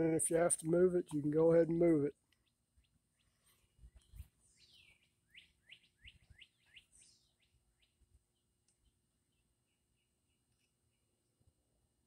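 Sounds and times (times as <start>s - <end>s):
faint bird chirping: 1.8s - 11.5s.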